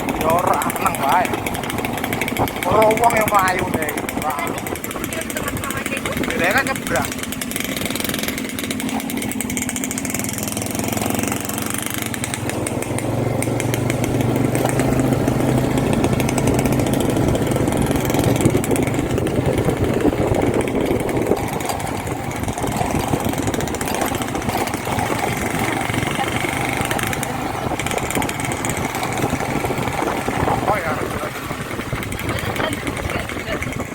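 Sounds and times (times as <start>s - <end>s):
small motorcycle engine running: 0.0s - 33.9s.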